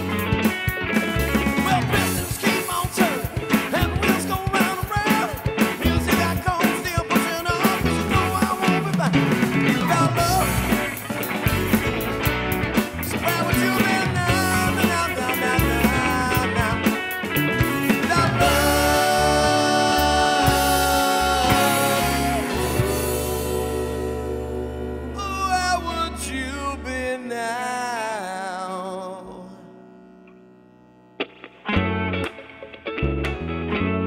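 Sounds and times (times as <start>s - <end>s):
keyboard playing: 0.0s - 28.4s
rock band song: 0.0s - 34.0s.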